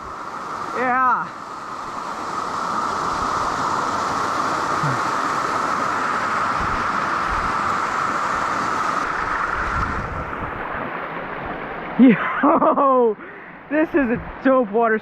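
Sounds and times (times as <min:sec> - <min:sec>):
waterfall roaring: 0:00.0 - 0:12.7.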